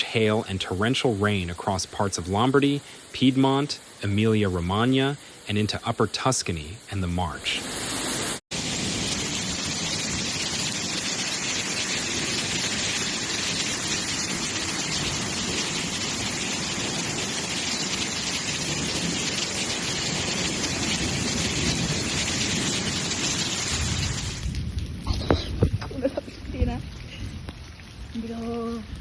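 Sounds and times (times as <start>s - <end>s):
heavy rain downpour: 0.0s - 29.0s.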